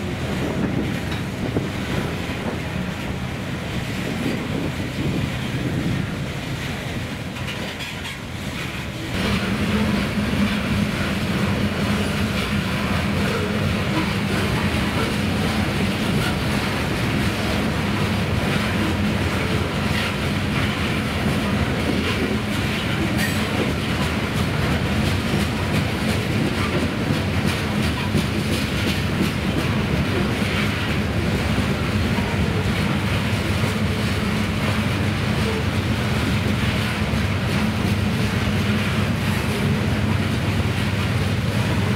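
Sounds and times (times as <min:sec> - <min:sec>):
train wheels rumbling on rail: 0:00.0 - 0:41.9.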